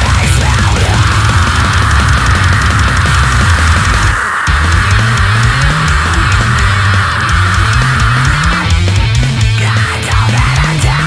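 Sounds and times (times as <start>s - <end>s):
drum hits: 0.0s - 9.7s
heavy metal guitar riff: 0.0s - 11.0s.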